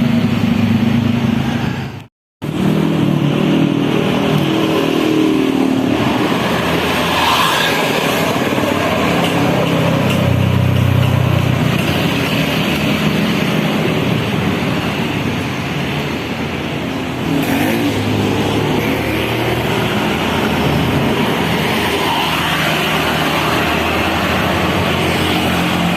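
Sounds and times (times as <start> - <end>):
heavy vehicle engines passing: 0.0 - 25.9.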